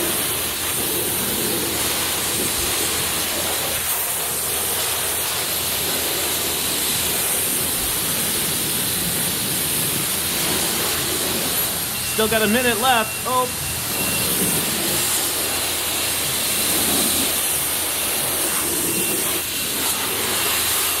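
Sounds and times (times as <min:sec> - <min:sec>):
high-pressure water spray hiss: 0:00.0 - 0:21.0.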